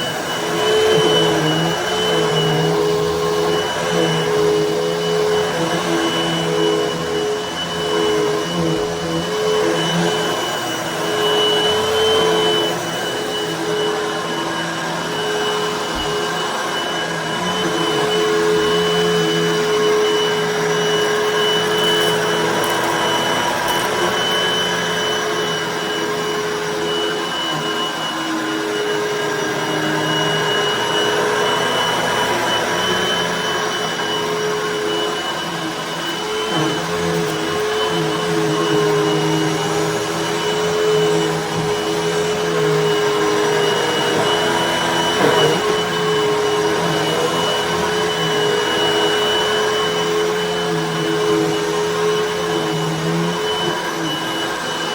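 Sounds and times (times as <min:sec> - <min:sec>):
vacuum cleaner on carpet: 0:00.0 - 0:54.9.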